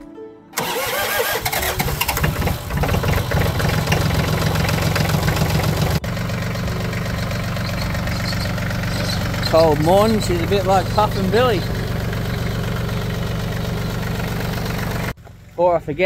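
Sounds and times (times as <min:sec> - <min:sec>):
diesel tractor engine idling: 0:00.6 - 0:16.0.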